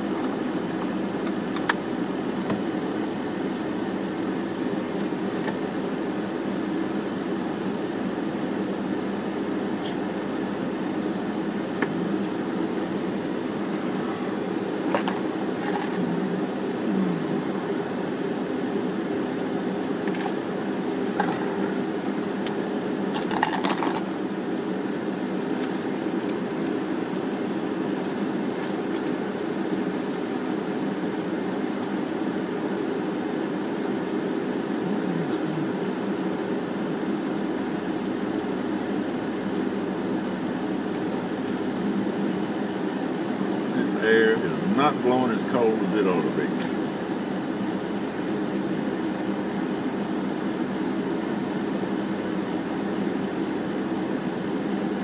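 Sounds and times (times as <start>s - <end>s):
low mechanical hum in car cabin: 0.0s - 55.0s.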